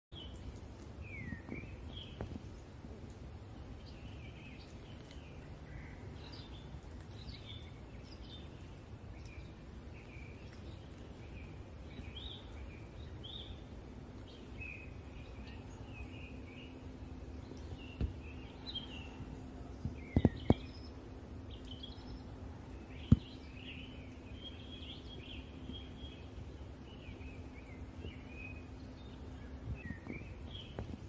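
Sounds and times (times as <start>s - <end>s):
songbirds chirping: 0.1s - 31.0s.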